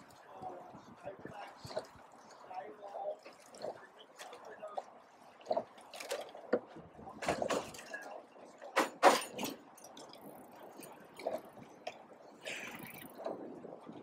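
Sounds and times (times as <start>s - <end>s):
oars splashing and knocking: 0.0s - 14.0s.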